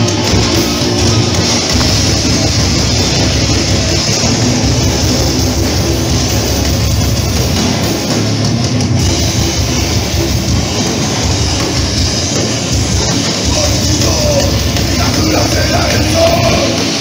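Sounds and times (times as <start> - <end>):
distorted electric guitars: 0.0 - 17.0
drum kit with pounding bass drum: 0.0 - 17.0.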